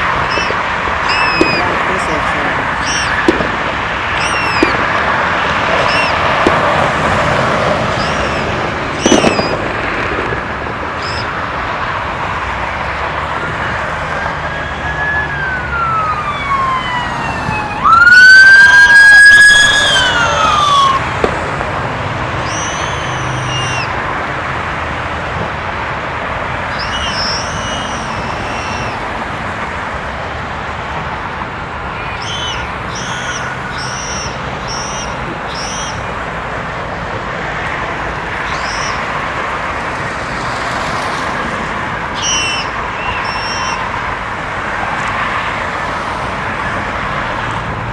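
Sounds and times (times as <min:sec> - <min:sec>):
police siren wailing: 0:00.0 - 0:24.3, 0:25.3 - 0:47.6
traffic noise: 0:00.0 - 0:47.9.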